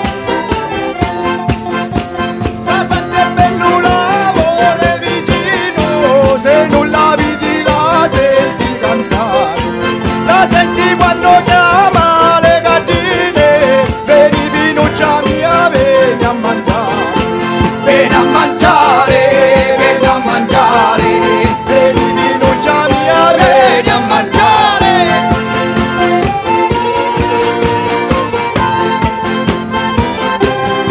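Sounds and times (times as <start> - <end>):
frame drums beating: 0.0 - 30.9.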